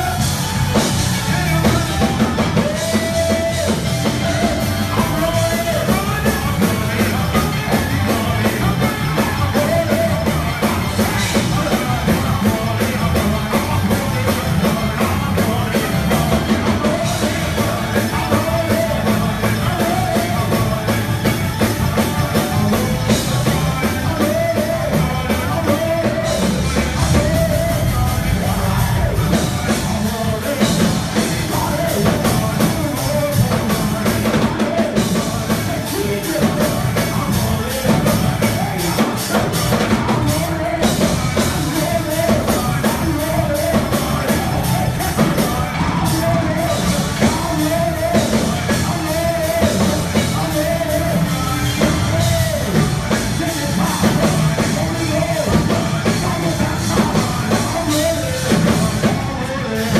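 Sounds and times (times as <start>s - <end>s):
band playing praise music: 0.0s - 59.9s
person singing into a microphone: 0.0s - 59.9s.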